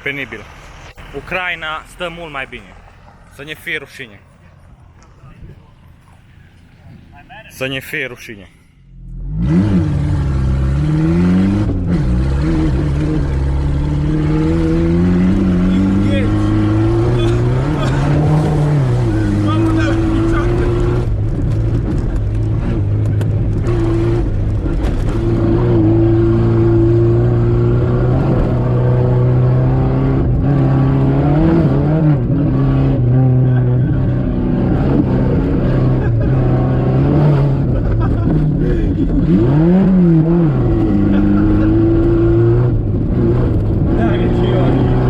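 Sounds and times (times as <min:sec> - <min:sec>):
car engine and exhaust running: 0:00.0 - 0:45.0.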